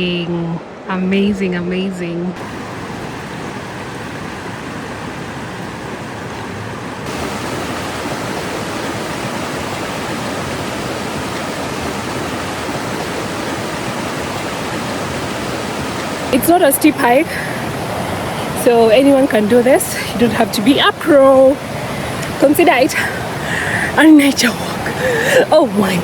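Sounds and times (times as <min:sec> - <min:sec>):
fast-flowing river water: 0:02.4 - 0:26.0.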